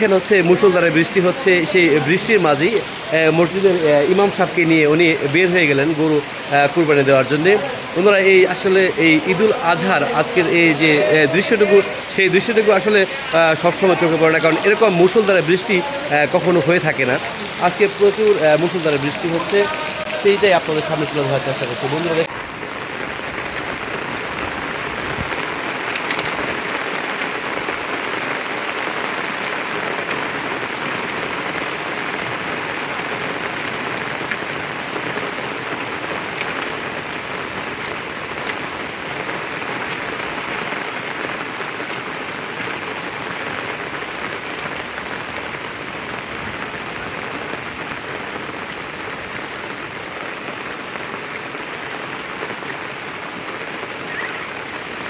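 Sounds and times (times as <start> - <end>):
torrential rain pattering: 0.0 - 55.0.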